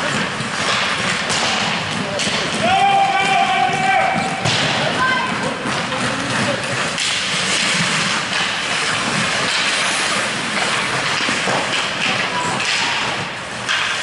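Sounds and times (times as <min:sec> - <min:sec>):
hockey sticks knocking: 0:00.0 - 0:14.0
skate blades scraping ice: 0:00.0 - 0:14.0.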